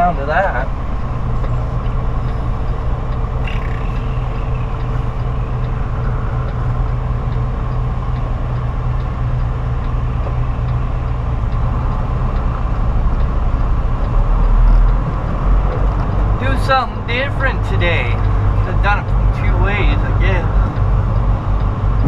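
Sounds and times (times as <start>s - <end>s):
truck diesel engine droning: 0.0s - 22.0s.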